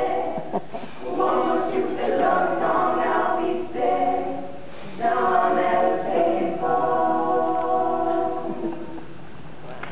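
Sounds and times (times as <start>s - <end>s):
youth choir singing: 0.0s - 8.9s.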